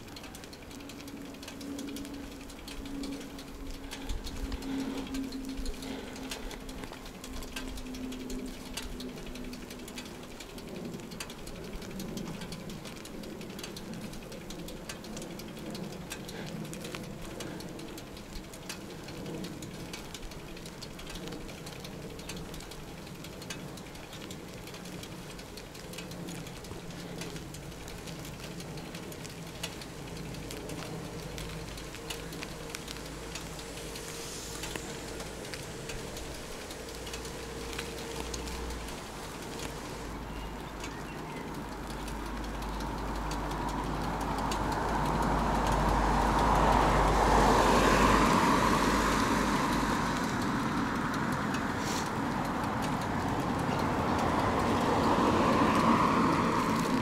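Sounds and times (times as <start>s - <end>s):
bicycle tyre and road noise: 0.0s - 57.0s
rattling ticking clicks: 0.0s - 57.0s.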